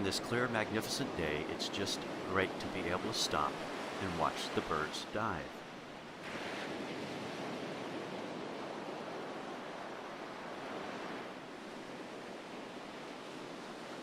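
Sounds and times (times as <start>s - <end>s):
ocean waves breaking on beach: 0.0s - 14.0s.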